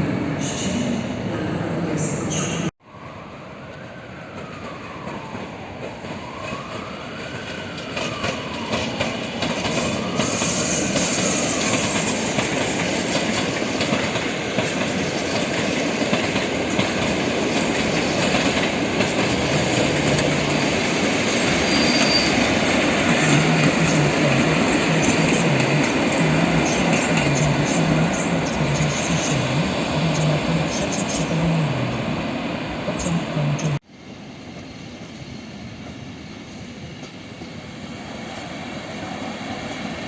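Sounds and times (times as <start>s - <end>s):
passenger train running on rails: 0.0s - 40.0s.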